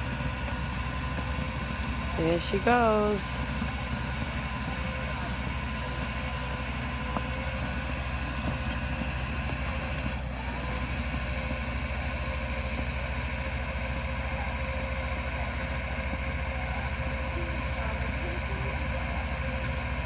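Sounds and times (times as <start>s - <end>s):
car engine running steadily: 0.0s - 20.0s.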